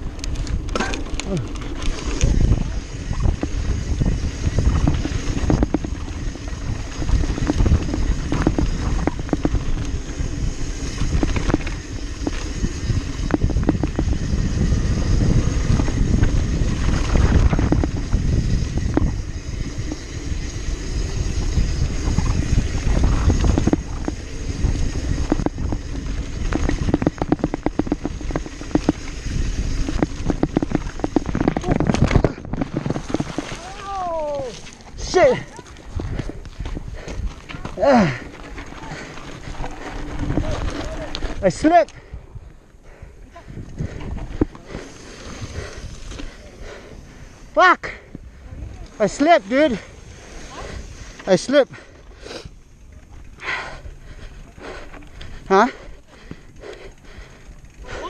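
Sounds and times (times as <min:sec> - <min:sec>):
wind noise on microphone: 0:00.0 - 0:48.8
bike rattling and knocking: 0:00.0 - 0:58.0
tyres rolling on dirt and gravel: 0:00.0 - 0:58.0.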